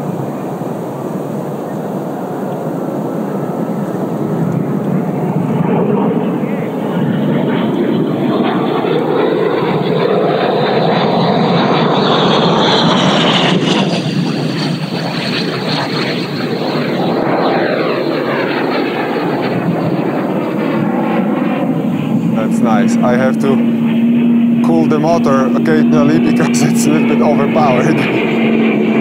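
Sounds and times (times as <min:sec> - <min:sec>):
electric ducted fan roaring: 0:00.0 - 0:29.0.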